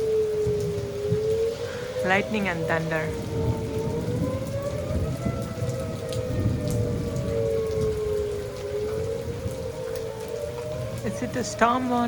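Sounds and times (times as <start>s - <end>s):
heavy rain pouring: 0.0s - 12.0s
warning siren wailing: 0.0s - 12.0s.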